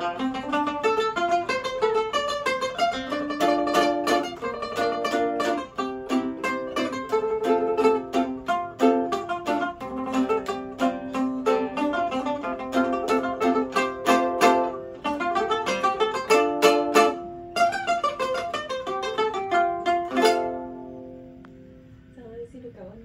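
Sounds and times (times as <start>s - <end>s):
plucked lutes duet: 0.0s - 22.2s.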